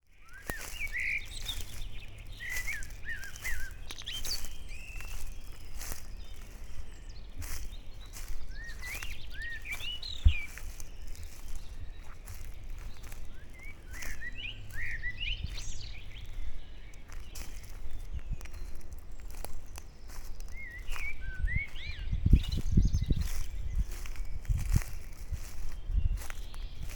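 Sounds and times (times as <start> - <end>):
songbirds singing: 0.0 - 26.9.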